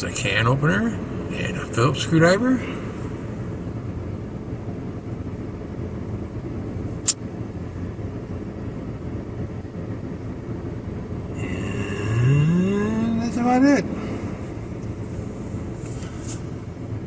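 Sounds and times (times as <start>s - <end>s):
car air conditioning and engine rumble: 0.0s - 17.0s.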